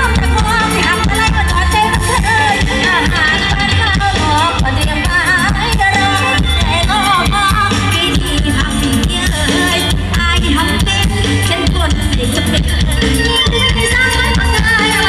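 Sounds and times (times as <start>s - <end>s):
bass: 0.0s - 15.0s
drums: 0.0s - 15.0s
woman singing into a microphone: 0.0s - 15.0s.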